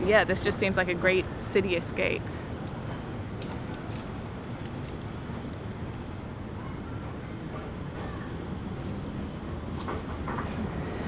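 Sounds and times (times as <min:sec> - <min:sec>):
constant low rumble: 0:00.0 - 0:11.0.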